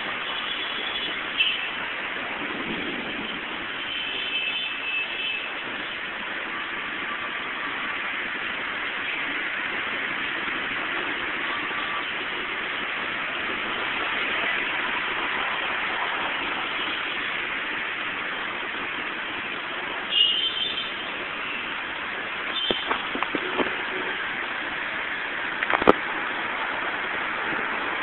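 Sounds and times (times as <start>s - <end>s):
heavy rain pouring: 0.0s - 28.0s
traffic on wet road: 0.0s - 28.0s.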